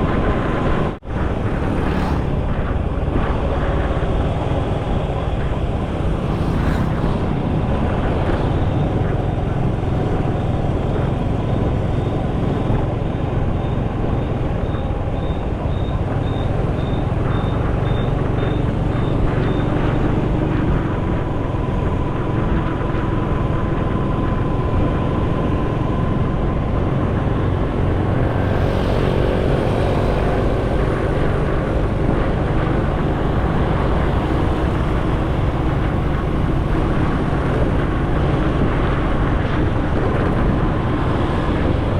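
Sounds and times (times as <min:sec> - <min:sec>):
passing traffic: 0:00.0 - 0:41.9
motorcycle engine: 0:00.1 - 0:41.9.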